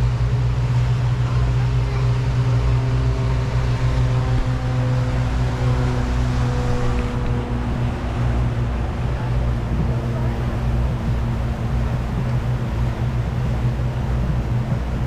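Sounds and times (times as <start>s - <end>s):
boat engine drone: 0.0s - 15.0s
wind and water rushing: 0.0s - 15.0s.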